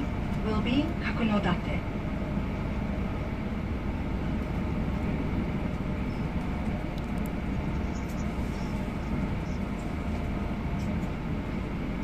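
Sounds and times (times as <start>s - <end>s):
faint steady whine: 0.0s - 12.0s
train running rumble: 0.0s - 12.0s.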